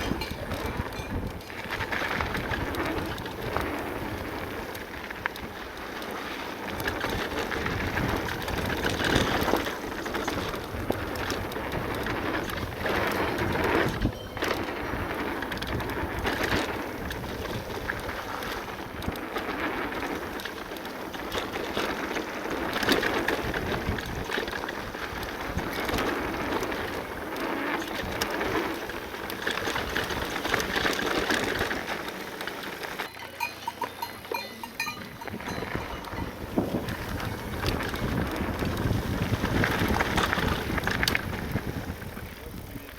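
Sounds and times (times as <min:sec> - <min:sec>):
bike rattling over bumps: 0:00.0 - 0:42.9
tyres crunching over dirt: 0:00.0 - 0:42.9.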